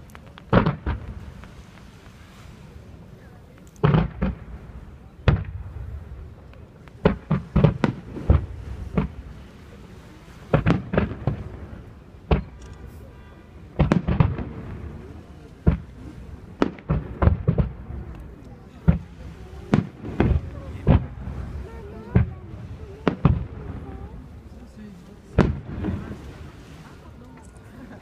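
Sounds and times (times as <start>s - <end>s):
fireworks bursting with bangs: 0.0s - 28.0s.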